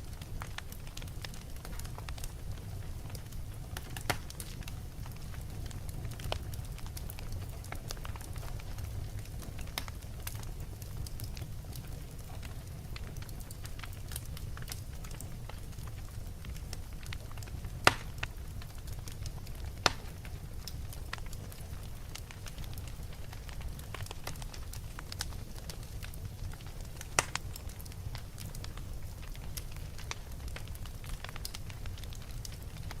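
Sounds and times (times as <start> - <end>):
wood fire crackling: 0.0 - 33.0
sharp fire pops: 0.2 - 5.4, 6.1 - 33.0.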